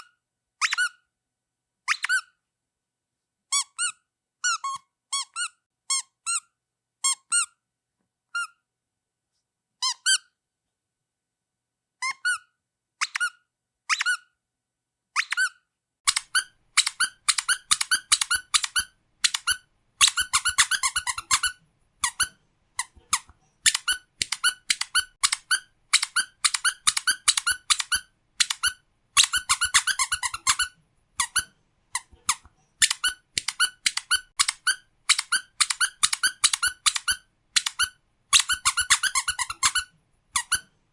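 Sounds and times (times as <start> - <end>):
rubber duck squeaking: 0.0 - 1.1, 1.9 - 2.4, 3.5 - 7.6, 8.3 - 8.6, 9.8 - 10.4, 12.0 - 14.4, 15.2 - 40.8.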